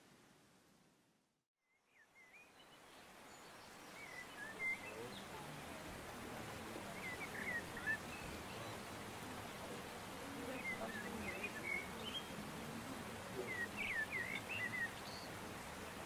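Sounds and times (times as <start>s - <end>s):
small birds chirping: 1.7s - 16.0s.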